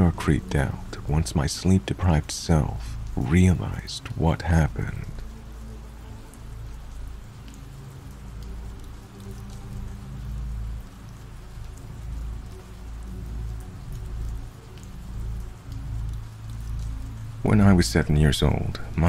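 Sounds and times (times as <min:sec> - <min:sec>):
dark ambient music: 0:00.0 - 0:19.0
steady rain falling: 0:00.0 - 0:19.0.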